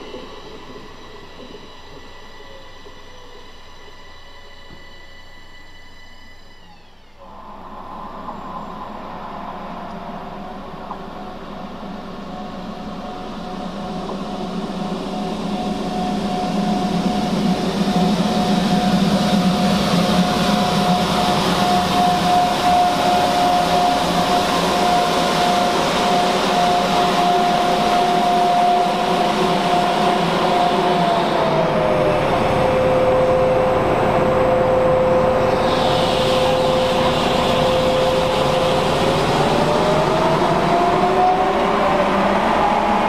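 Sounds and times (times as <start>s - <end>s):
high whine: 0.0s - 43.0s
train rail and wheel noise: 0.0s - 43.0s.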